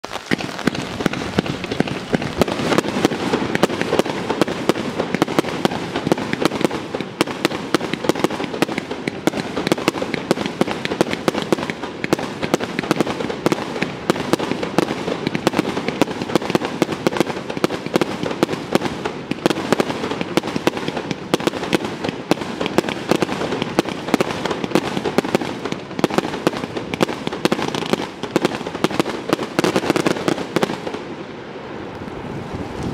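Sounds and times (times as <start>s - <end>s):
fireworks firing rapidly: 0.0s - 31.2s.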